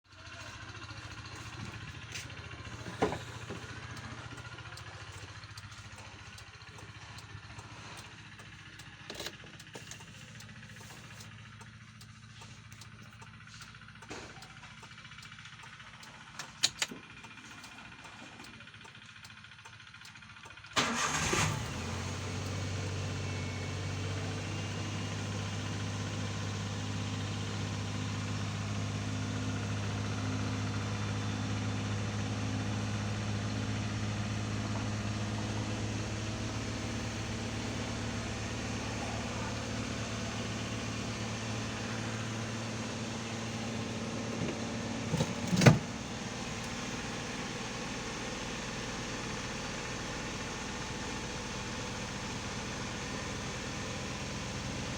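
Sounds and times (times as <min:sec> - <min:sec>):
car engine starting and idling: 0:00.1 - 0:54.9.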